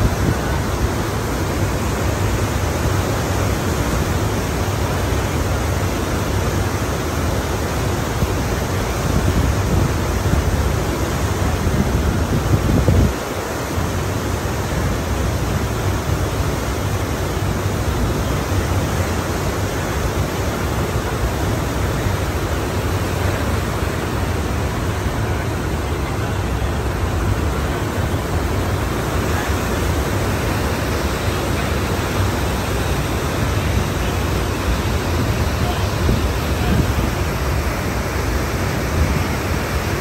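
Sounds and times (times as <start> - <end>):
ocean surf rushing: 0.0 - 40.0.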